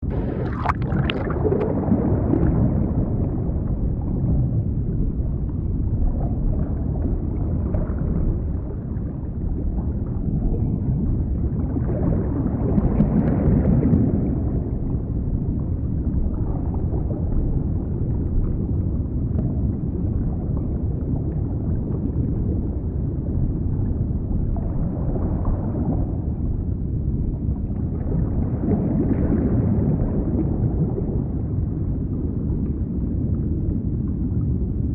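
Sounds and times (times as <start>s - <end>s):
underwater water rumble and gurgle: 0.0s - 34.9s.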